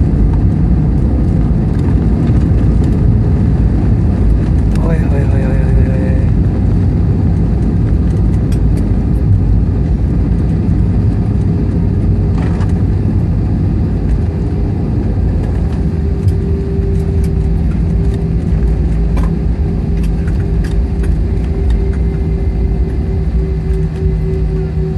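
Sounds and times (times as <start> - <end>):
steady hum: 0.0 - 24.9
vehicle engine rumble: 0.0 - 24.9.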